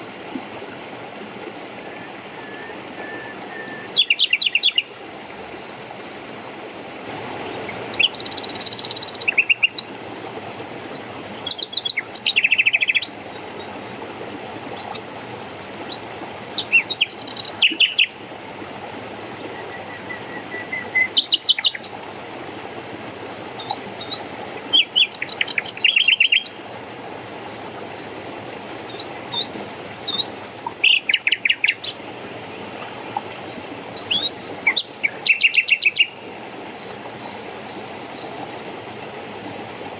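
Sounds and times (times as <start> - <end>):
running water: 0.0 - 39.9
songbirds chirping: 1.9 - 5.2, 7.5 - 26.9, 27.8 - 39.9.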